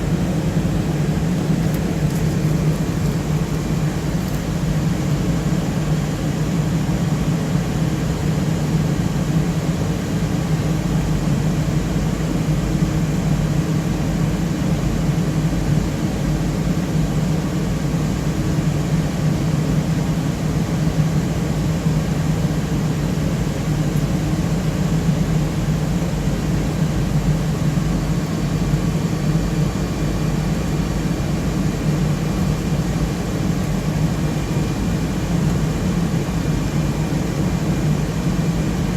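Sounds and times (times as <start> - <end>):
cooling fans whirring: 0.0 - 38.9.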